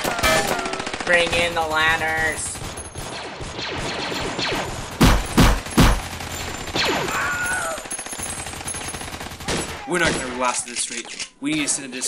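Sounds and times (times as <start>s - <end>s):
rapid gunfire rattle: 0.0s - 10.4s.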